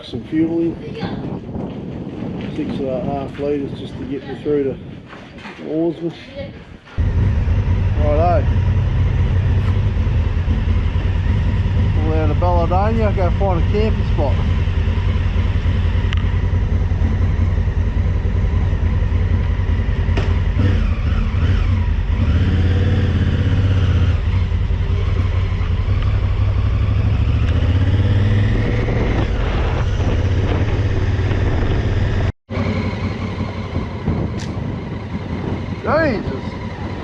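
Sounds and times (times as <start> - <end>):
motorcycle engine running: 6.9 - 37.0.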